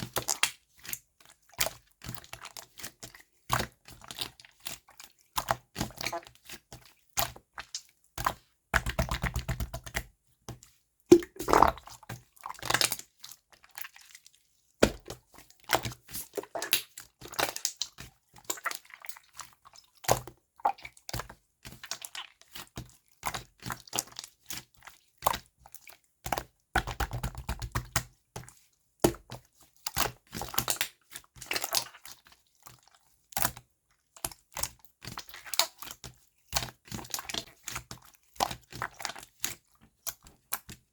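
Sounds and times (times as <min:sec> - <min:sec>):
hands kneading sticky slime: 0:00.0 - 0:33.6, 0:34.2 - 0:40.9.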